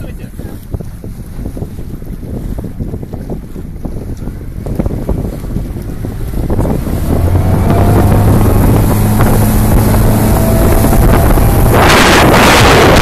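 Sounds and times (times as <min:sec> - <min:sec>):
boat engine humming: 0:00.0 - 0:13.0
rushing water: 0:00.0 - 0:13.0
wind buffeting microphone: 0:00.0 - 0:13.0.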